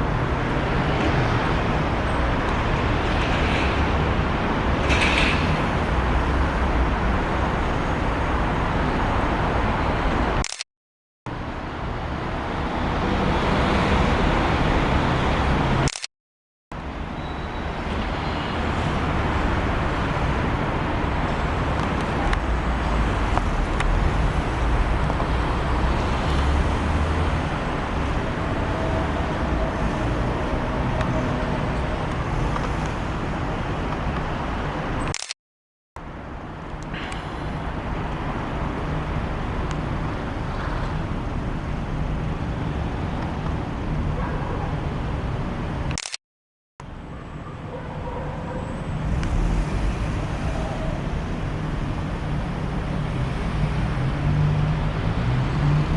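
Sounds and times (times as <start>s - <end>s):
road traffic rumble: 0.0s - 10.6s, 11.3s - 16.1s, 16.7s - 35.3s, 36.0s - 46.2s, 46.8s - 55.9s.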